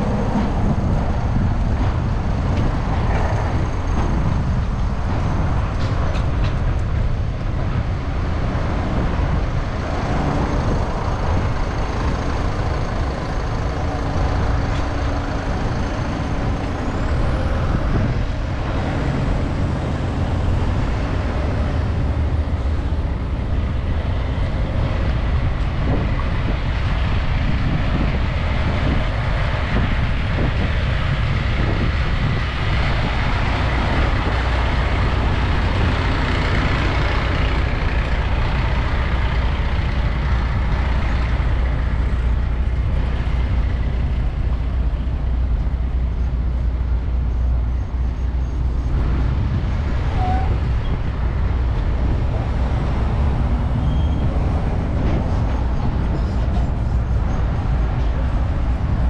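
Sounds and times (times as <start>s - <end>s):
vehicle road noise rumble: 0.0s - 59.0s.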